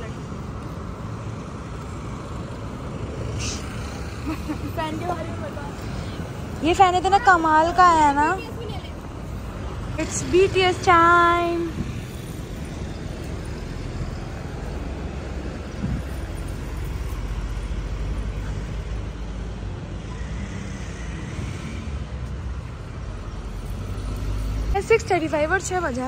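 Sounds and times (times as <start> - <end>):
low traffic rumble: 0.0 - 26.0.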